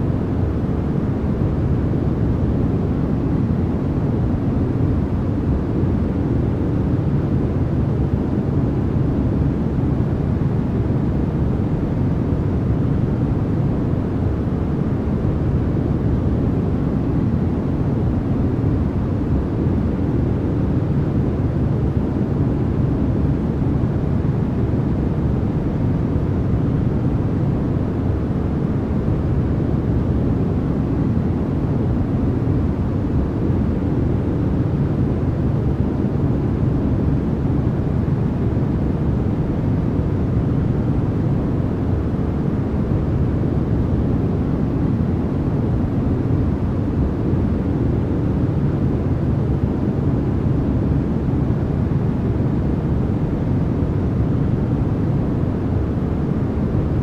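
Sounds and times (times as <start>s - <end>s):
deep rushing white noise: 0.0s - 57.0s.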